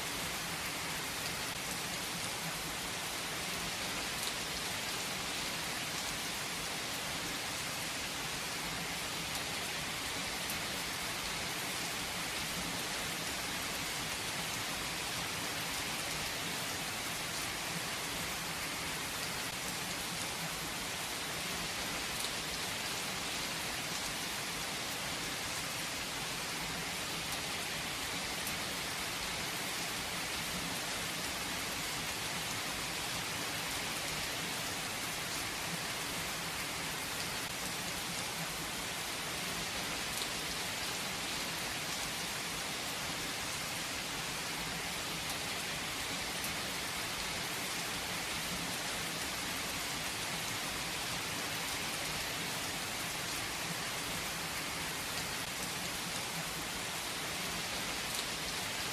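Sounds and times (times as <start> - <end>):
rain pattering on a surface: 0.4 - 58.9.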